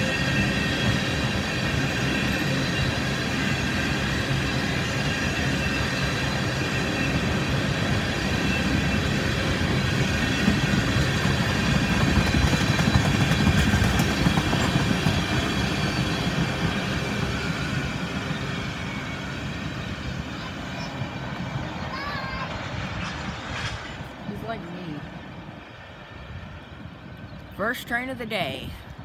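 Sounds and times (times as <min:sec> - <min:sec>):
train wheels rumbling on rail: 0:00.0 - 0:27.7.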